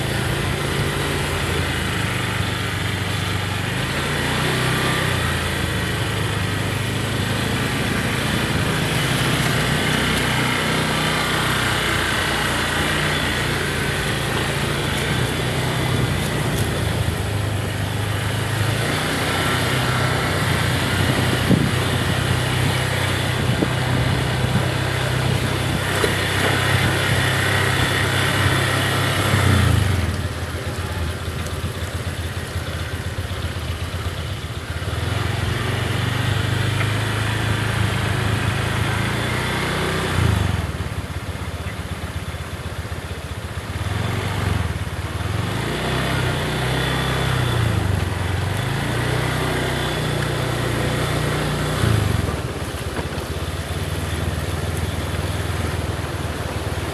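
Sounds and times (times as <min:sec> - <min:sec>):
motorcycle engine revving: 0:00.0 - 0:41.6, 0:43.0 - 0:56.9.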